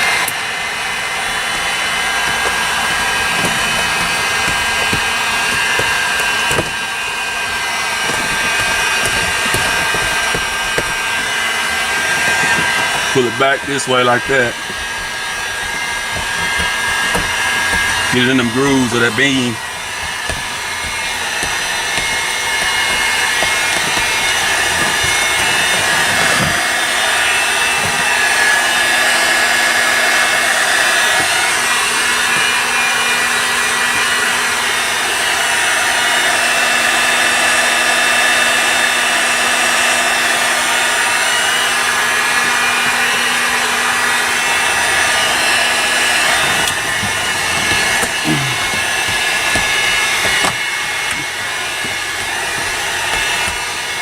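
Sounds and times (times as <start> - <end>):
heat gun blowing air: 0.0 - 54.0.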